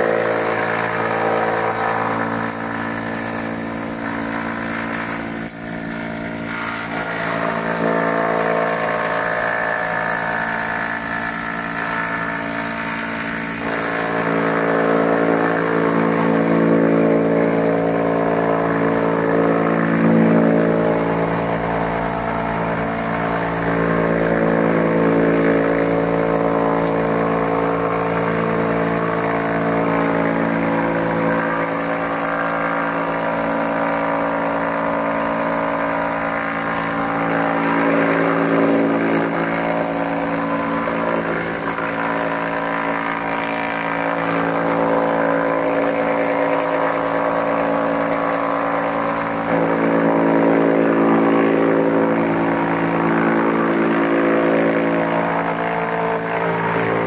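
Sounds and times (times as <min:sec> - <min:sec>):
wood chipper running: 0:00.0 - 0:57.0.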